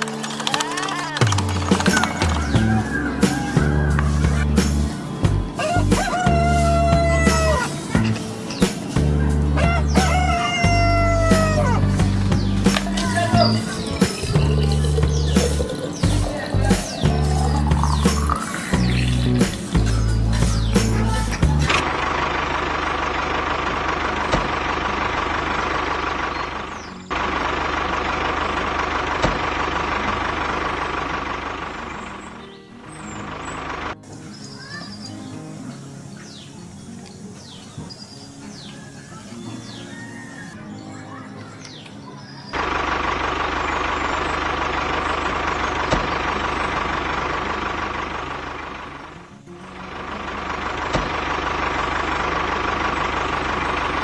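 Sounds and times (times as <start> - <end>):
birds chirping: 0.0 - 21.9, 24.3 - 27.7, 30.2 - 54.0
vehicle engine running: 0.0 - 32.3, 42.6 - 54.0
faint music: 0.0 - 54.0.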